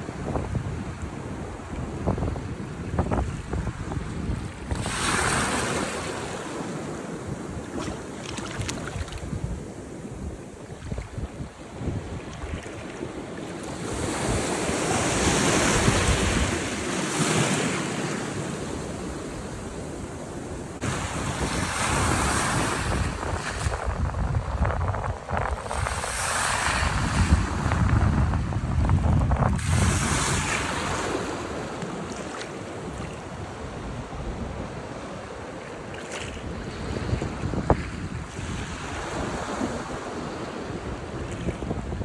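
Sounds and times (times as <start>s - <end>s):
small waves washing ashore: 0.0s - 28.8s, 29.4s - 42.0s
wind on microphone: 0.0s - 42.0s.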